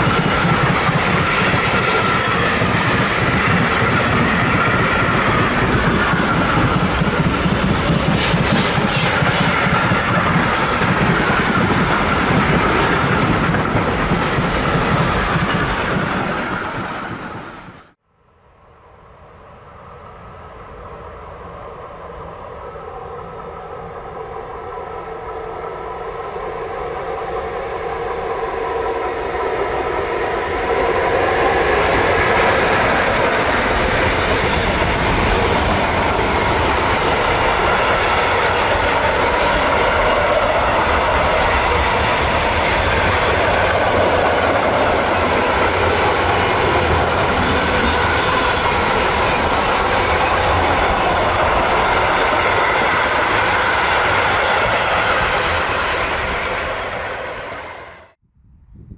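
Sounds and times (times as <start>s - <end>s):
train passing at speed: 0.0s - 58.2s.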